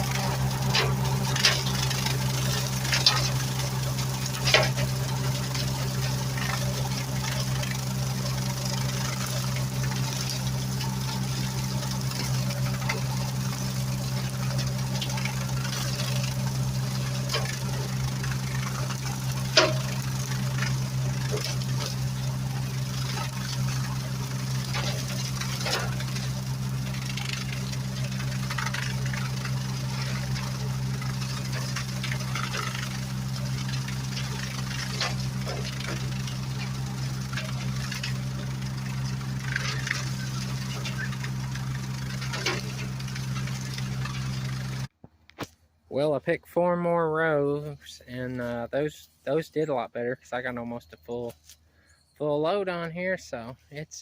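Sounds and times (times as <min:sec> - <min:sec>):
engine running low hum: 0:00.0 - 0:54.0.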